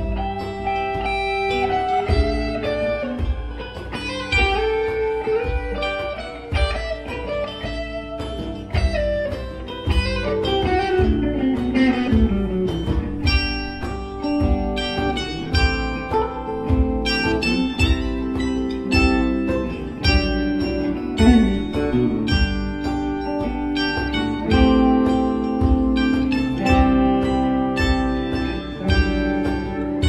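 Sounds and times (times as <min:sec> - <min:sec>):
electric guitars: 0:00.0 - 0:30.0
guitar line sliding down in pitch: 0:00.0 - 0:30.0
hand-played congas: 0:00.0 - 0:30.0.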